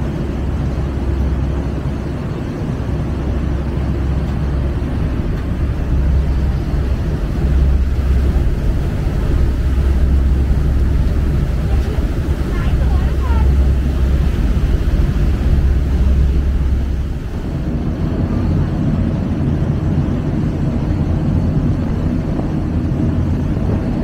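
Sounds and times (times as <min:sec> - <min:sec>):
boat engine rumbling: 0:00.0 - 0:24.0
wind on microphone: 0:00.0 - 0:24.0.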